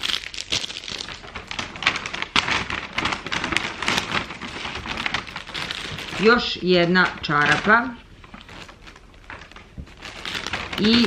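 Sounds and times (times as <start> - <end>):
cellophane and paper bag crinkling: 0.0 - 11.0.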